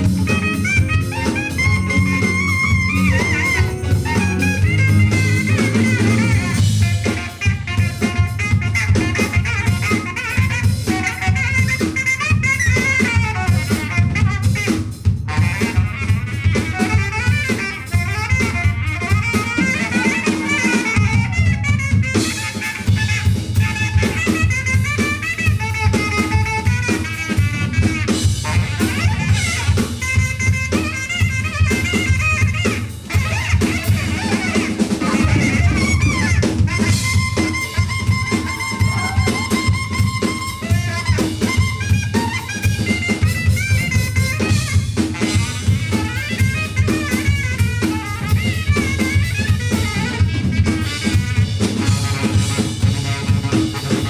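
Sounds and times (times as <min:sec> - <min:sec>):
bass line: 0:00.0 - 0:54.0
busy drum kit: 0:00.0 - 0:54.0
jazz-funk band playing: 0:00.0 - 0:54.0.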